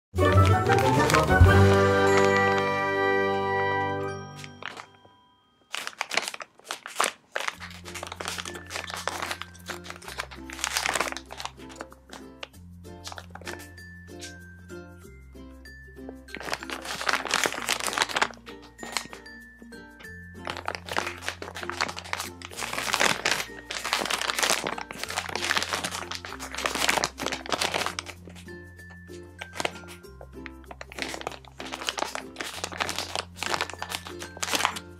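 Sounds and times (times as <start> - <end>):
plastic package crinkling: 0.2 - 3.2, 4.3 - 5.1, 5.7 - 14.3, 16.3 - 19.4, 20.4 - 34.9.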